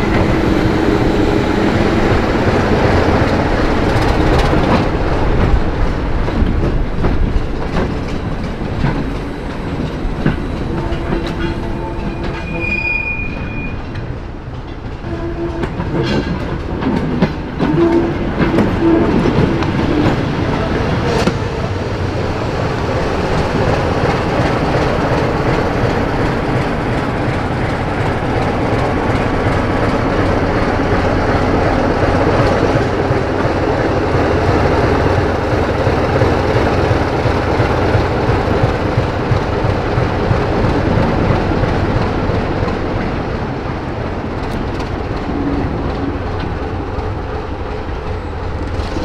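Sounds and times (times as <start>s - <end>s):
diesel locomotive engine drone: 0.0s - 49.0s.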